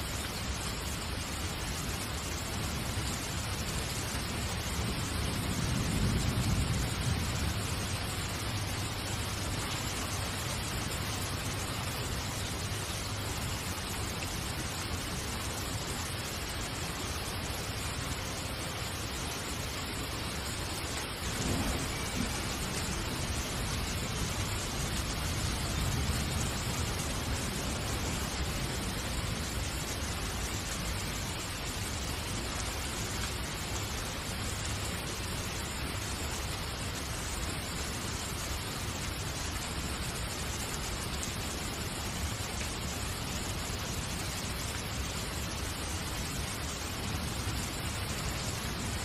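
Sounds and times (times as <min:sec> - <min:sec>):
steady hiss: 0:00.0 - 0:49.0.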